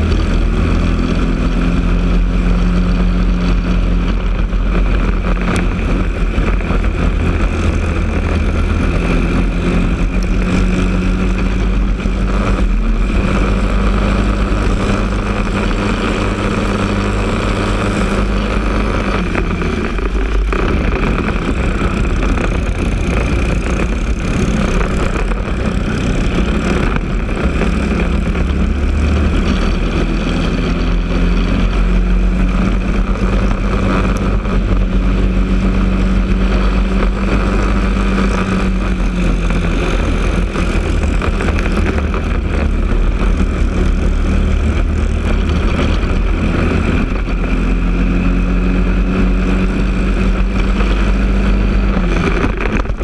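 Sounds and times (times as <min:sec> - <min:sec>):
kart engine at full throttle: 0:00.0 - 0:53.0
wind rumble on microphone: 0:00.0 - 0:53.0.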